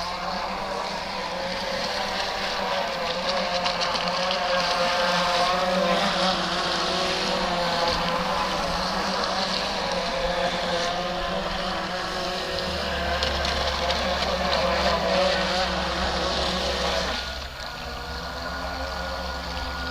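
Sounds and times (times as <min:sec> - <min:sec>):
electric motor whine: 0:00.0 - 0:19.9
water rushing under hull: 0:00.0 - 0:19.9.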